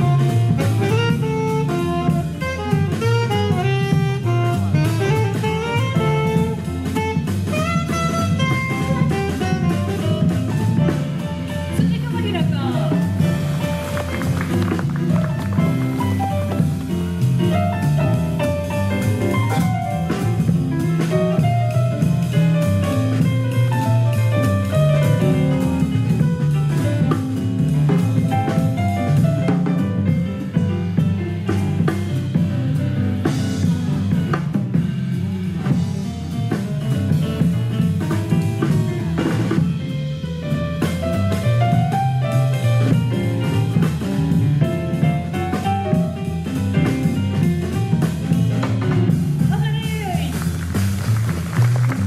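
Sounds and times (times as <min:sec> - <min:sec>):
bass line: 0:00.0 - 0:52.0
drum kit: 0:00.0 - 0:52.0
jazz band playing: 0:00.0 - 0:52.0.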